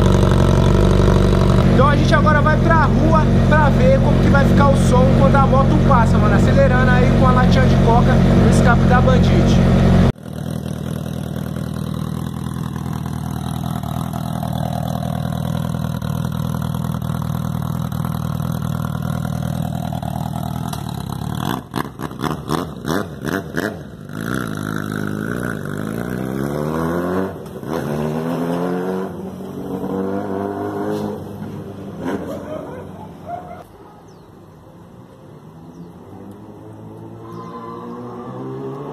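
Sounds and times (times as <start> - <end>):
motorcycle engine revving: 0.0 - 34.2, 35.7 - 38.9.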